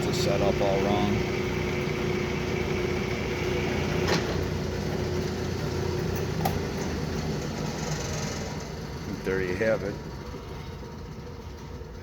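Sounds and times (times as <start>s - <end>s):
metal lathe humming: 0.0s - 12.0s.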